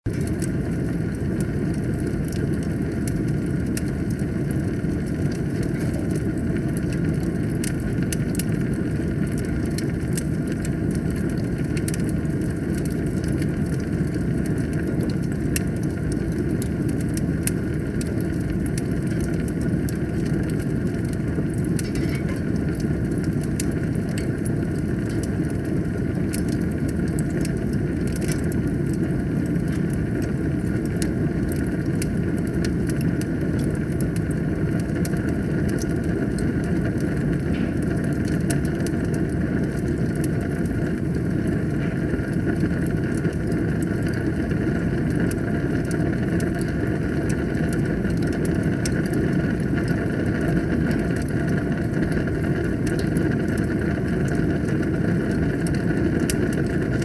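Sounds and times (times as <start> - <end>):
fire crackling in fireplace: 0.1 - 57.0.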